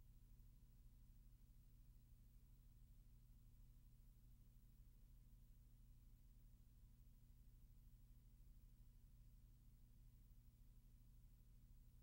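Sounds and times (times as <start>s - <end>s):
faint low hum with hiss: 0.0s - 12.0s.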